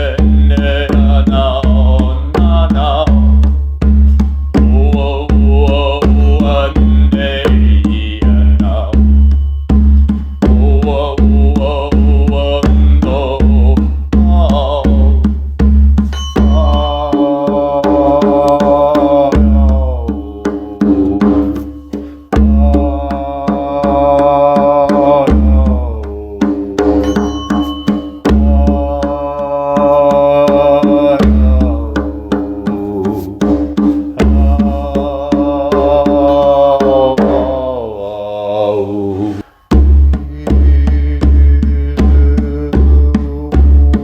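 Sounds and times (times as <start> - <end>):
chant-like singing: 0.0 - 3.5, 4.5 - 9.2, 10.4 - 15.3, 16.4 - 44.0
light percussion beat: 0.0 - 37.8, 39.4 - 44.0.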